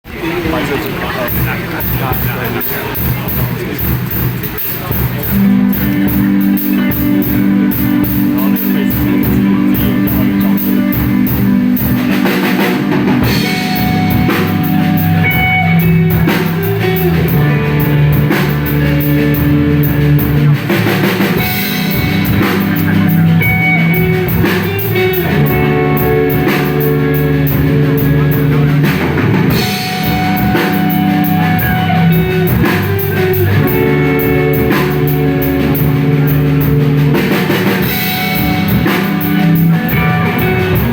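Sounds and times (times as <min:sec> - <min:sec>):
live rock band playing: 0:00.1 - 0:40.9
electric bass notes: 0:00.4 - 0:40.9
steady drum beat: 0:00.4 - 0:40.9.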